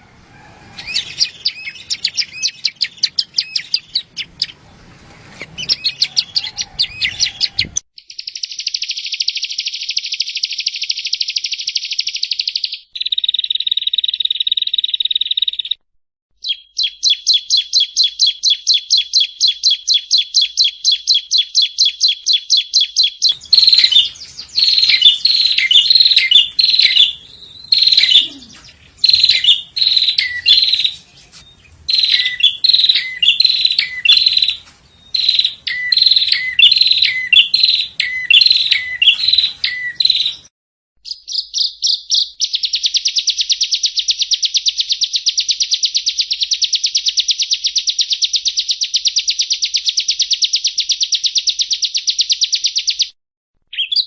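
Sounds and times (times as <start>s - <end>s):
bird song with buzzy trills: 0.8s - 4.6s, 5.6s - 15.8s, 16.4s - 54.0s.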